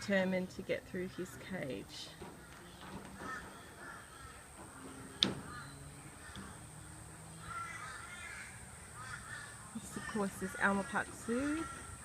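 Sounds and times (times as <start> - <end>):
harsh bird calls: 2.2 - 12.0.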